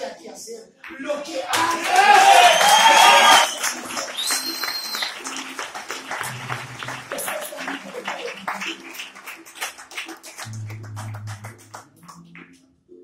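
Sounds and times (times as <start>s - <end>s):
audience clapping: 0.8s - 12.6s
music playing: 0.8s - 13.0s.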